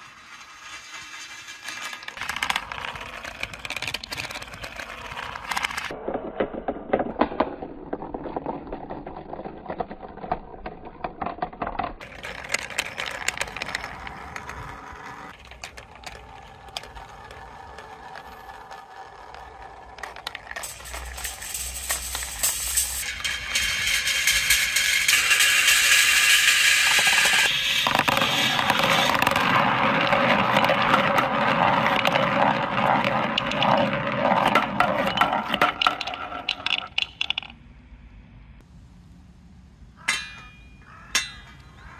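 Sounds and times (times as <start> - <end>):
balls rolling on plastic track: 0.0 - 37.7.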